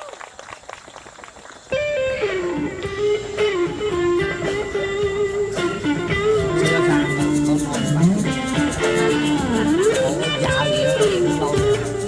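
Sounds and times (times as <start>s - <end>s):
electric guitar lead melody: 1.7s - 12.0s
guitar accompaniment: 1.7s - 12.0s.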